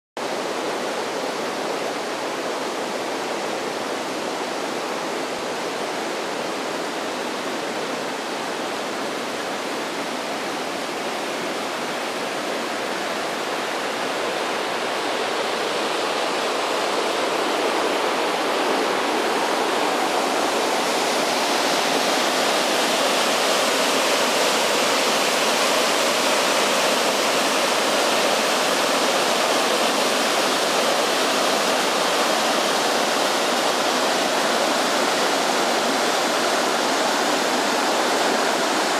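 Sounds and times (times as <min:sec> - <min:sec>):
whitewater rushing: 0:00.2 - 0:38.9.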